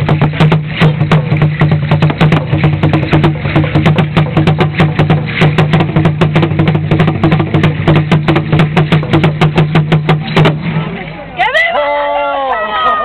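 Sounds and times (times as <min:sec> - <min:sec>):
drum beaten with sticks: 0:00.0 - 0:11.6.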